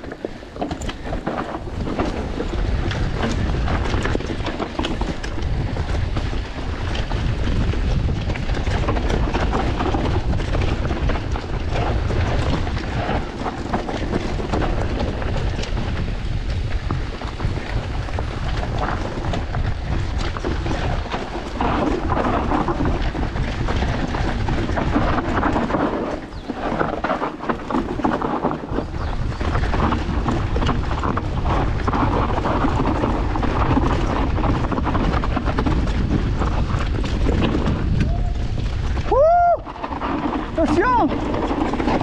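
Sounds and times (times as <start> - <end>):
bike rattling over stones: 0.0 - 42.0.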